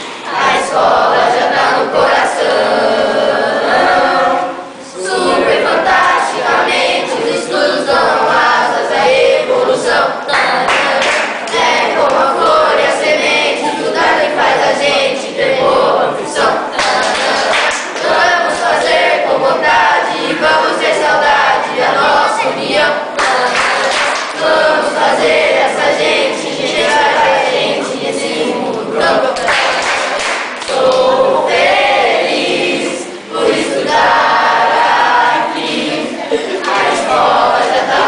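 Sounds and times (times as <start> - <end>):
young voices singing together: 0.0 - 38.0.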